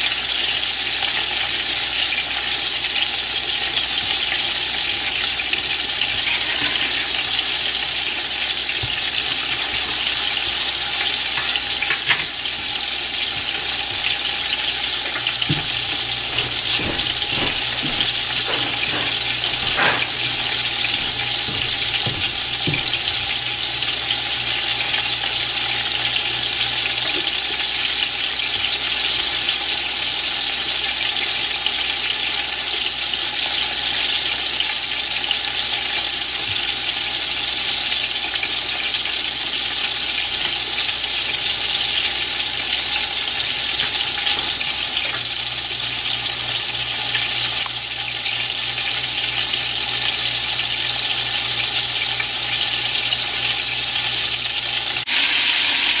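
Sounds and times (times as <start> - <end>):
chicken sizzling in skillet: 0.0 - 56.0.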